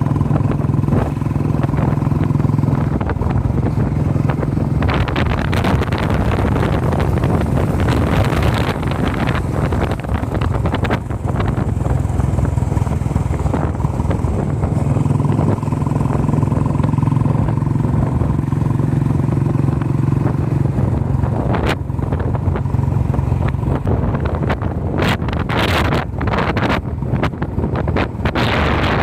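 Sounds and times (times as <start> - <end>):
vehicle engine running: 0.0 - 29.0
wind noise on microphone: 0.0 - 29.0.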